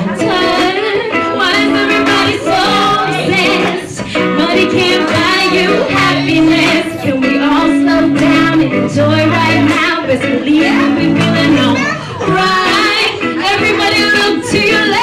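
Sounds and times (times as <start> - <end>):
guitar: 0.0 - 15.0
woman singing: 0.0 - 15.0
steady bass line: 1.3 - 14.7.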